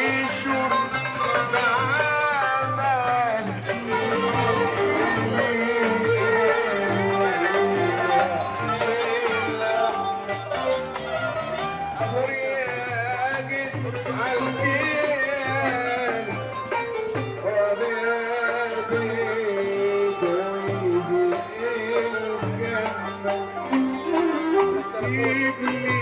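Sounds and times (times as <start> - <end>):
wavering folk melody: 0.0 - 26.0.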